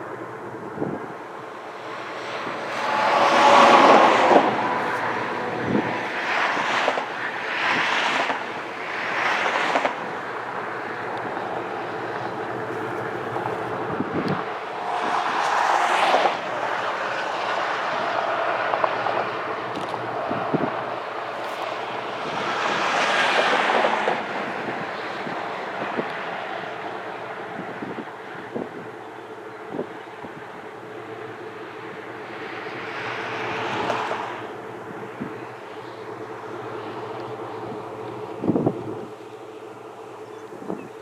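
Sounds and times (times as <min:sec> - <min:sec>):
vehicles rushing by: 0:00.0 - 0:41.0.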